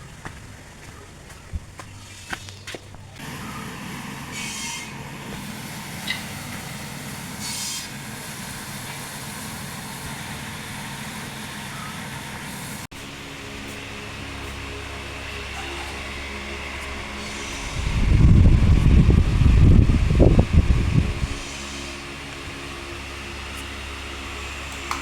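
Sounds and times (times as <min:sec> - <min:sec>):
electric fan humming: 0:03.2 - 0:25.0.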